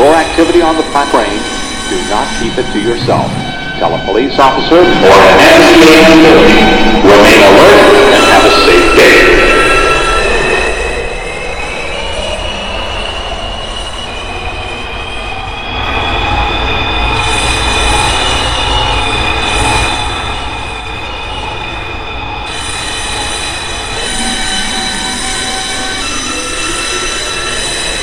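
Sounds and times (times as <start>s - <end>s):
high squealing tones: 0.0s - 28.0s
subway train rumble: 0.0s - 28.0s.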